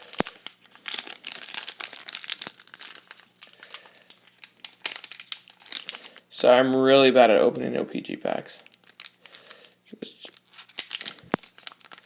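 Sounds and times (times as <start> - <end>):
plastic wrapper crinkling and tearing: 0.0 - 7.3, 8.5 - 12.0.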